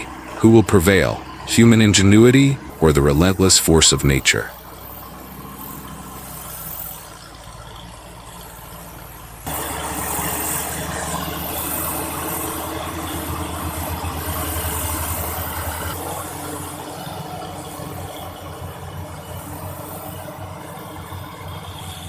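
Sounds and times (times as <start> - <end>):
heavy machinery engines running: 0.0 - 22.0
machine with pulsing rumble and rattle: 0.0 - 22.0.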